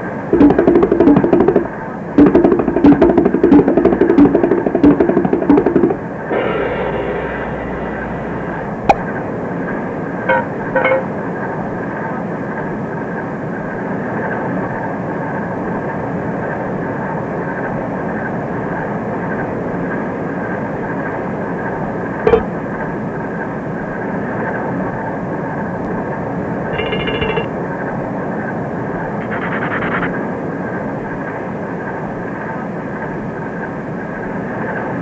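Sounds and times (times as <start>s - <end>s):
mechanical drone with high tone: 0.0s - 35.0s.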